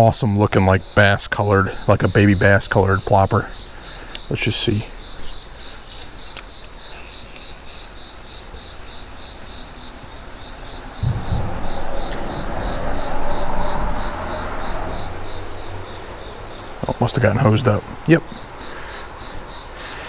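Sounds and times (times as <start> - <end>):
insect high trill: 0.0 - 20.0
insect pulsing chirp: 0.0 - 20.0
low rumble and hiss: 0.0 - 20.0.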